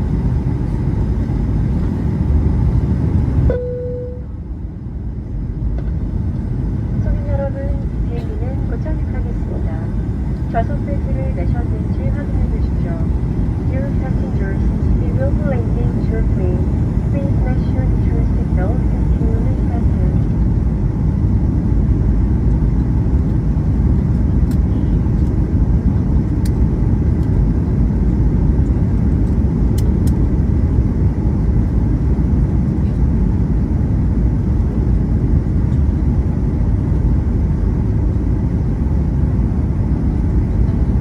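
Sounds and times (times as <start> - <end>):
airliner cabin engine roar: 0.0 - 41.0.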